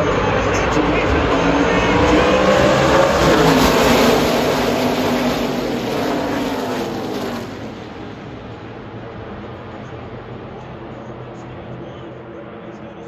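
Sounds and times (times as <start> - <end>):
race truck engines passing at full throttle: 0.0 - 13.0.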